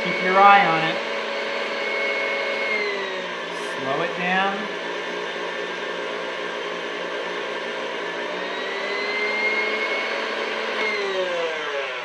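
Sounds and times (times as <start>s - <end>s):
stand mixer motor whining: 0.0s - 12.0s.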